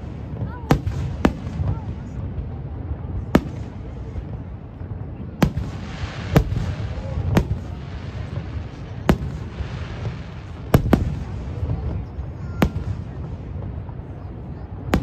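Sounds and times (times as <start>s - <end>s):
fireworks bursting: 0.0s - 15.0s
fireworks crackling: 0.0s - 15.0s.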